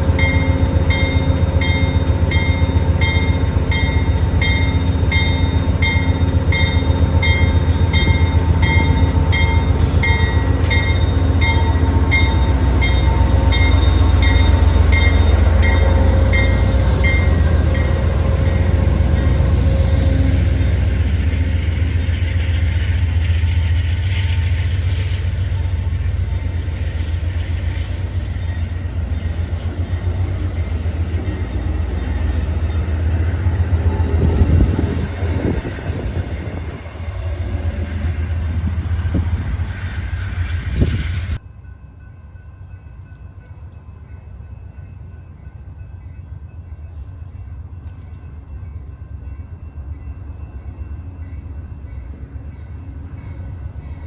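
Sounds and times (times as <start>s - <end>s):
train clanks: 0.0s - 54.0s
train rumbling on rails: 0.0s - 54.0s.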